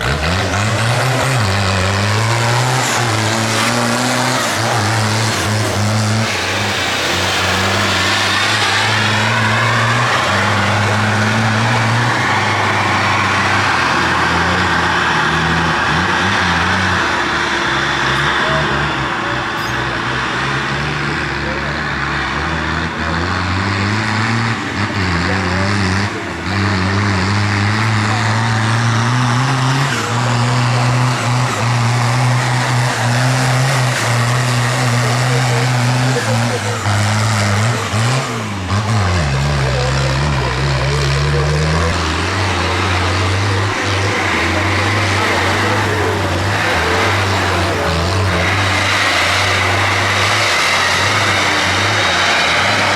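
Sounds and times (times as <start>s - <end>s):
tractor engines running: 0.0s - 52.9s.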